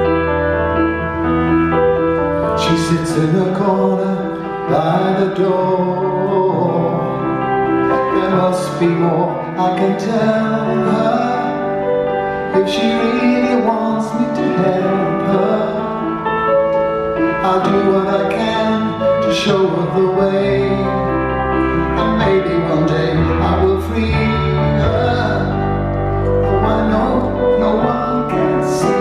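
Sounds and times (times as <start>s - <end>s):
slow piano ballad: 0.0s - 29.0s.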